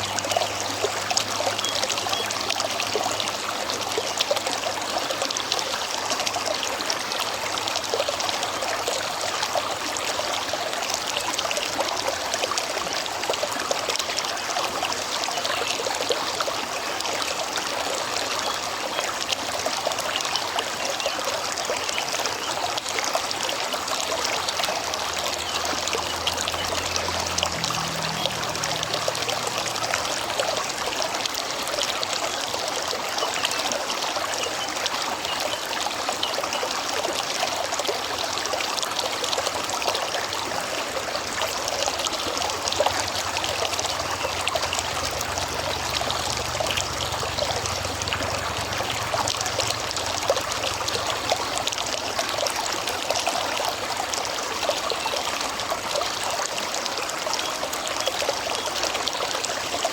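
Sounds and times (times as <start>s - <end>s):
river water flowing and trickling: 0.0s - 59.9s.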